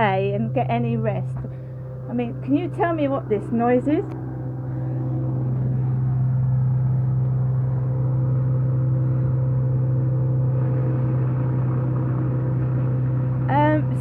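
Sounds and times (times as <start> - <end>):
tree-cutting motor drone: 0.0 - 14.0.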